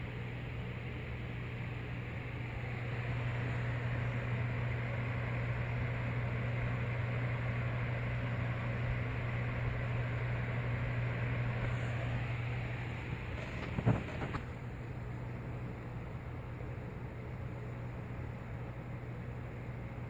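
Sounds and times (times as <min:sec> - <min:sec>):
electric fan whirring: 0:00.0 - 0:20.0.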